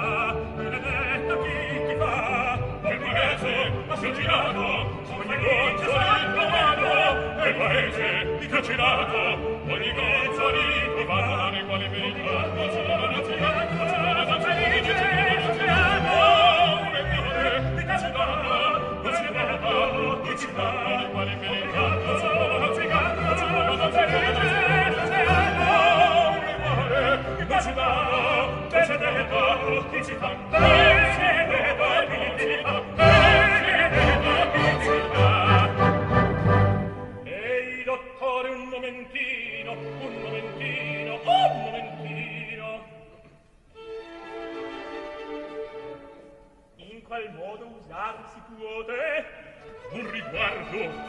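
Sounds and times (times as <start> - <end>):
male opera singing with vibrato: 0.0 - 51.0
orchestra: 0.0 - 51.0.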